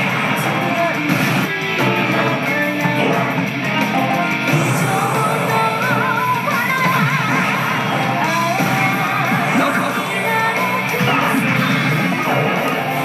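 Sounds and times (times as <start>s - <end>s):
rock music with guitar lead: 0.0s - 13.0s.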